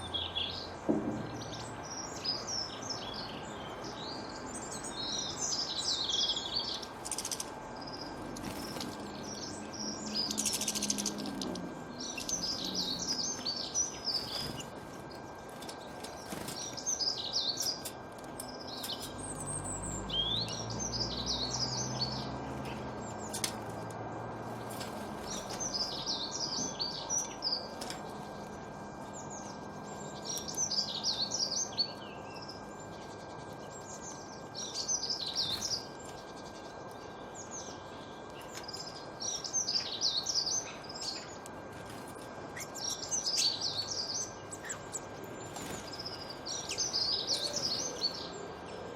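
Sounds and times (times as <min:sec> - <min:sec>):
faint steady hum: 0:00.0 - 0:48.9
small birds twittering: 0:00.0 - 0:48.9.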